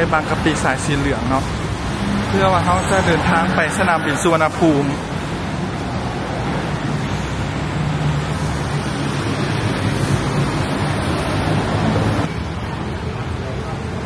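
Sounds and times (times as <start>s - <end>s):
passing vehicles: 0.0s - 14.0s.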